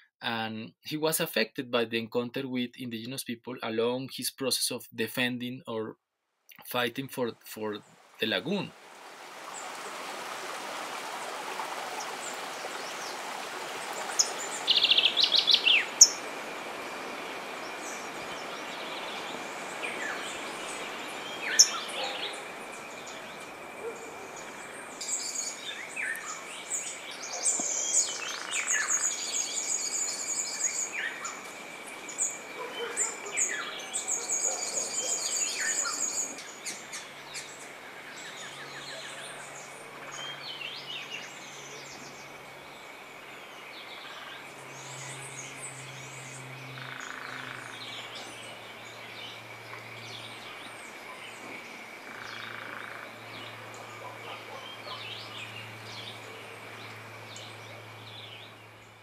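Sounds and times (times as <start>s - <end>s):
outdoor ambience hiss: 0.0s - 59.0s
birds chirping and trilling: 11.7s - 59.0s.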